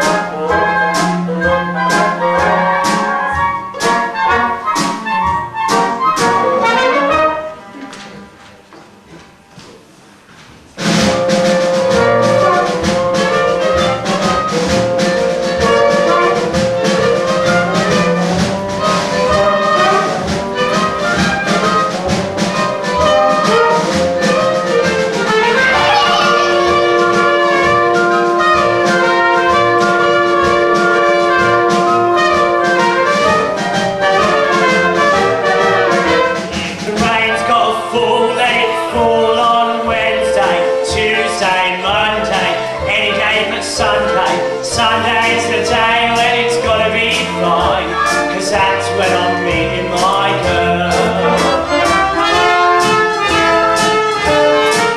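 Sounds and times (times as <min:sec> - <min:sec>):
up-tempo brass band music: 0:00.0 - 0:08.4, 0:10.8 - 0:54.9.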